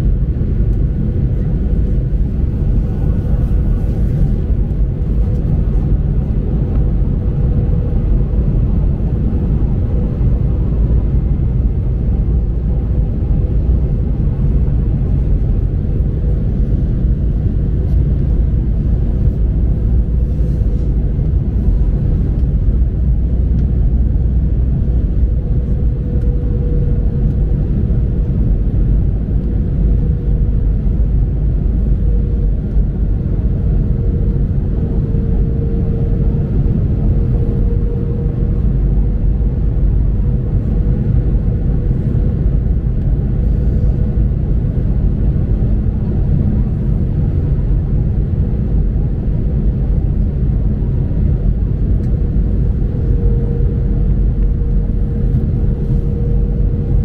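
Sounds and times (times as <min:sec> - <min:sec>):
airliner cabin rumble: 0:00.0 - 0:57.0
faint constant hum: 0:00.0 - 0:57.0.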